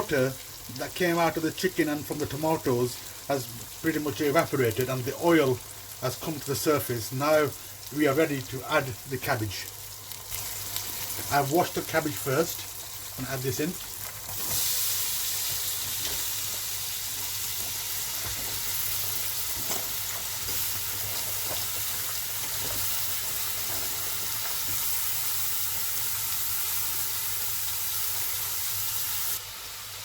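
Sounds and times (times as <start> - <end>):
cabbage sizzling in hot oil: 0.0 - 30.0.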